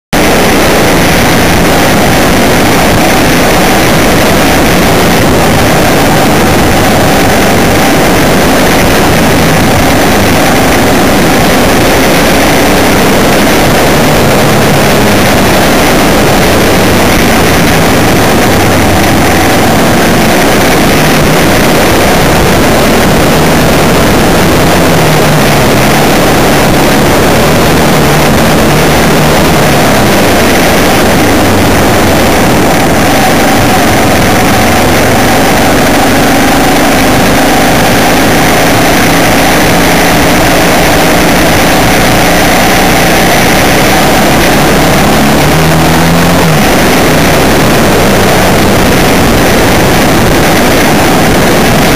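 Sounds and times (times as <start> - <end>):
road noise: 0.0 - 51.9
vehicle engine running: 0.0 - 51.9.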